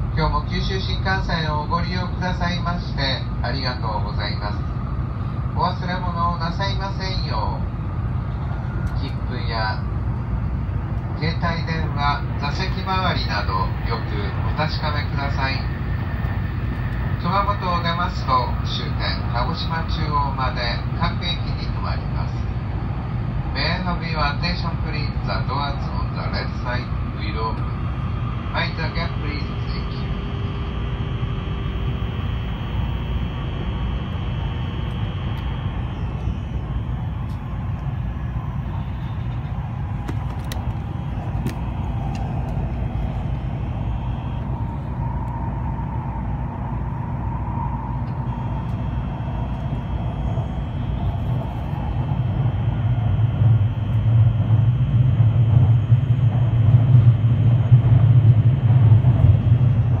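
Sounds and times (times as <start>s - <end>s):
train running at speed: 0.0s - 60.0s.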